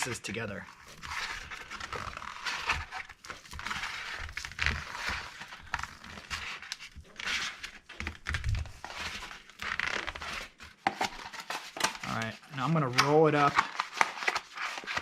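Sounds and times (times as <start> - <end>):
cardboard crackling: 0.0 - 15.0.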